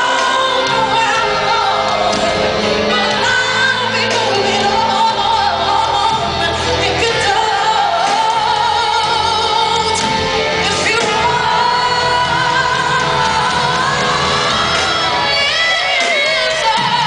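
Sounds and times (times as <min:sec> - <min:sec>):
live band backing: 0:00.0 - 0:17.0
woman singing a ballad: 0:00.0 - 0:17.0.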